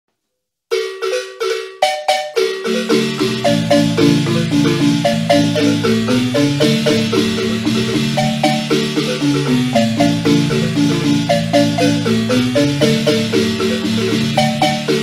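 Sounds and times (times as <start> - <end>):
marimba music: 0.7 - 15.0.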